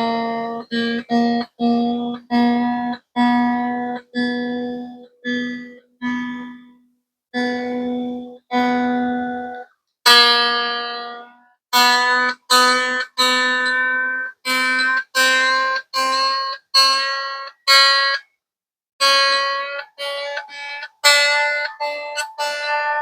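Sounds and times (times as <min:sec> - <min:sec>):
electric guitar strings plucked: 0:00.0 - 0:06.8, 0:07.4 - 0:18.2, 0:19.0 - 0:23.0.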